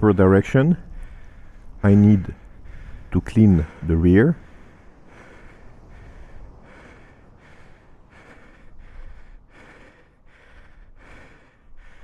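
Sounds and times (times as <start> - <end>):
man panting heavily: 0.9 - 12.0.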